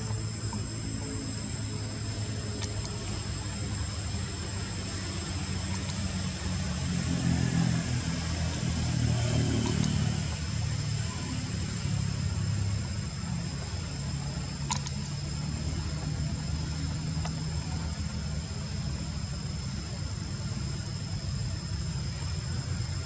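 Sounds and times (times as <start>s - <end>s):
engine humming: 0.0s - 23.0s
high-pitched whine: 0.0s - 23.0s.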